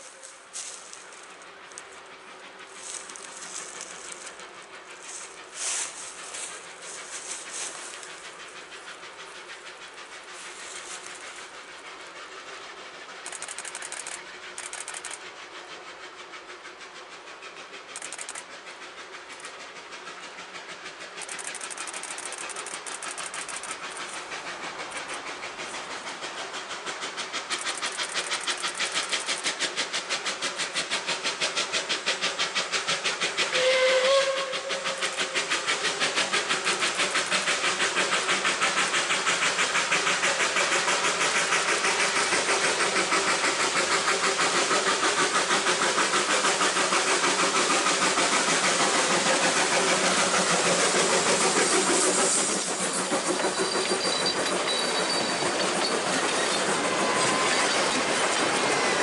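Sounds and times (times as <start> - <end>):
steam locomotive chuffing: 0.0 - 59.0.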